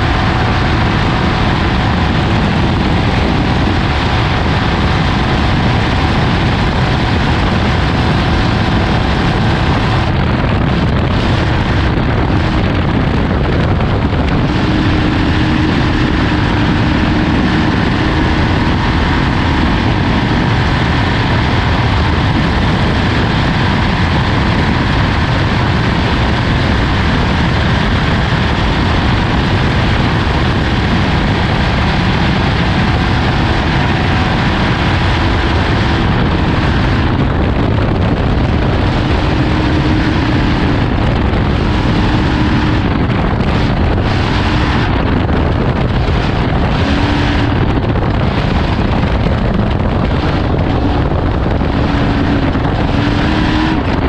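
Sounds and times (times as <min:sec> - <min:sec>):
off-road vehicle running: 0:00.0 - 0:54.0.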